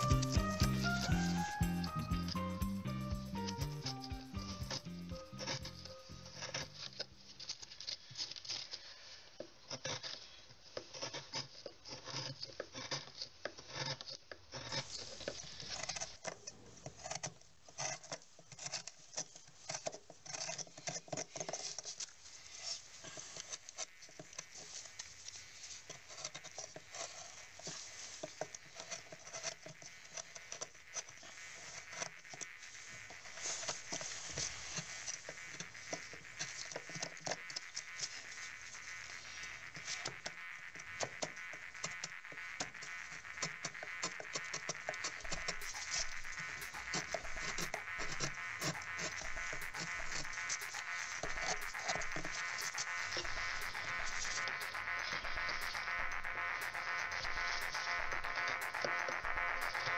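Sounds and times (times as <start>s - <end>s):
carving tool cutting wood: 0.0s - 59.9s.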